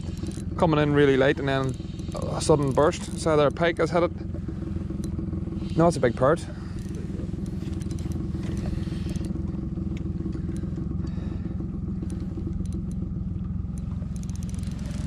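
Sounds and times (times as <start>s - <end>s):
light clicks and rattles: 0.0s - 4.0s, 4.9s - 10.8s, 12.0s - 15.0s
low engine drone: 0.0s - 15.0s.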